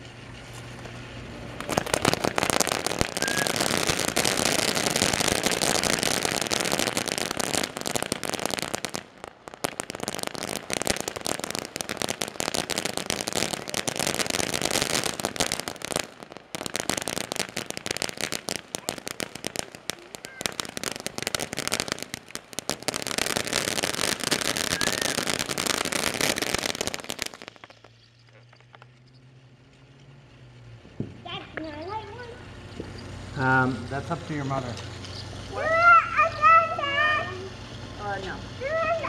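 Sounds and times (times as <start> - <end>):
firework fountain crackling: 0.0 - 39.0.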